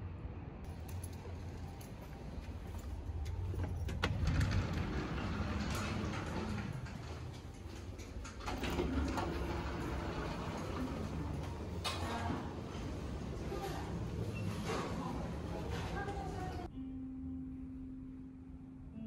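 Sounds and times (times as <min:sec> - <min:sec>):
traffic and building hum: 0:00.0 - 0:16.7
automatic sliding glass door: 0:01.2 - 0:16.7.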